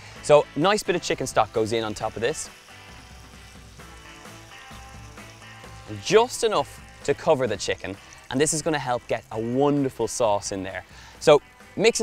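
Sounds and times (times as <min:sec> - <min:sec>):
stock sizzling in hot wok: 0:00.0 - 0:12.0.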